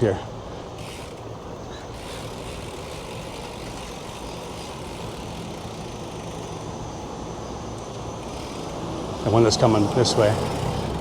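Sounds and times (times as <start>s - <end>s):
street traffic noise: 0.0s - 11.0s
vehicle engine humming: 0.0s - 11.0s.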